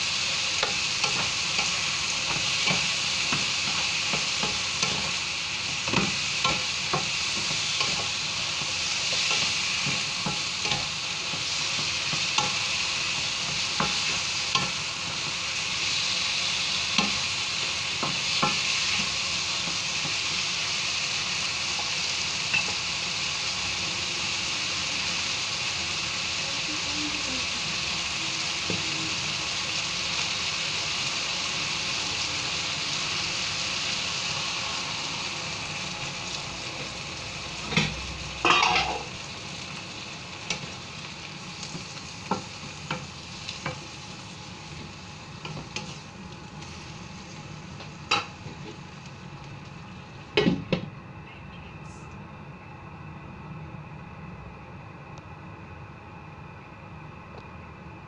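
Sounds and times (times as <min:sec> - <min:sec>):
food sizzling in a frying pan: 0:00.0 - 0:51.0.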